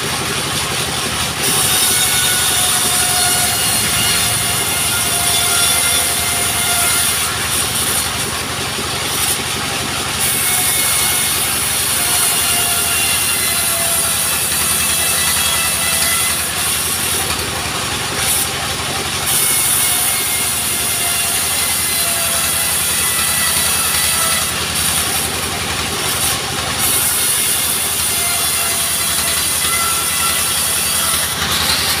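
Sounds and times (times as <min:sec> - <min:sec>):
sawmill engine running: 0:00.0 - 0:32.0.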